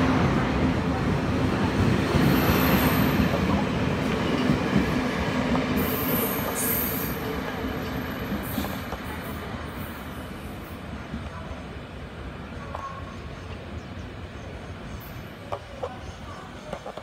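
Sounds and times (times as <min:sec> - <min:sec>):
train carriages rolling past: 0:00.0 - 0:17.0.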